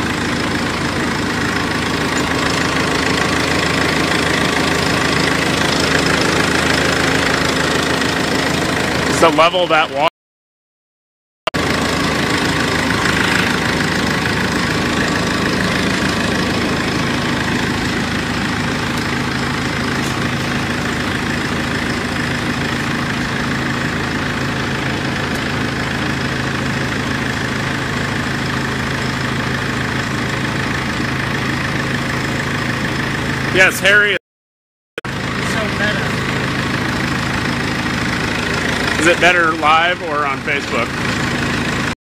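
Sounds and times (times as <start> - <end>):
diesel engine idling: 0.0 - 10.1, 11.5 - 34.2, 35.0 - 42.0.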